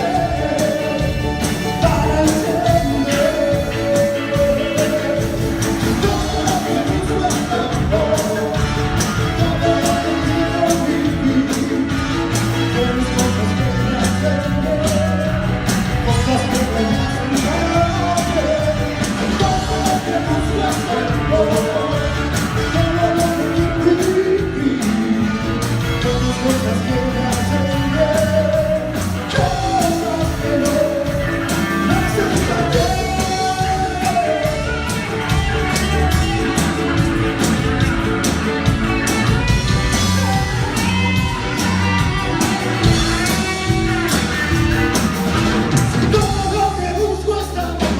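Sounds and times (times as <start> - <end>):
live cumbia band music: 0.0 - 47.9.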